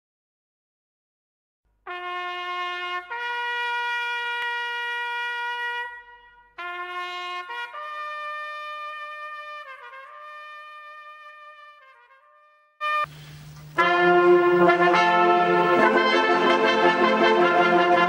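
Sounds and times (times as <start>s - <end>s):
trumpet playing slow held notes: 1.9s - 13.1s, 13.8s - 18.0s.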